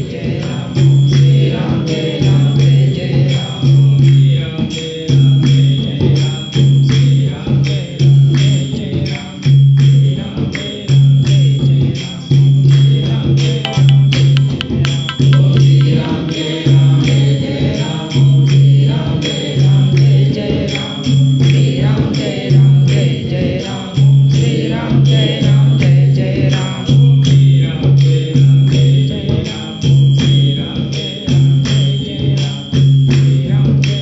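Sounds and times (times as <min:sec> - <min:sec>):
group chanting: 0:00.0 - 0:06.6, 0:07.3 - 0:34.0.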